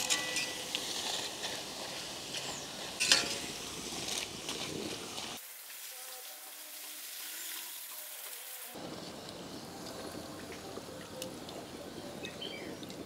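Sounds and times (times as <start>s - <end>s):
garden hose spraying water: 0.0s - 13.0s.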